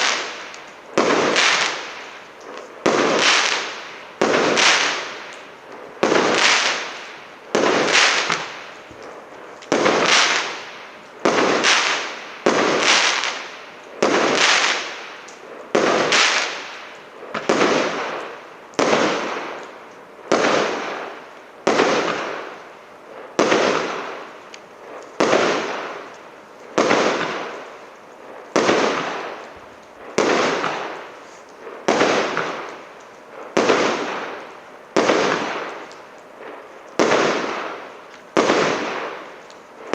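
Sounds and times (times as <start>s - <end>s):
firework bangs: 0.0s - 19.6s, 20.3s - 26.1s, 26.7s - 39.9s.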